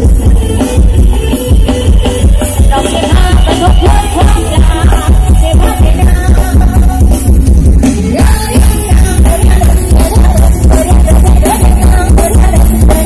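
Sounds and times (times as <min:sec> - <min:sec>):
dance music over loudspeakers: 0:02.2 - 0:13.0.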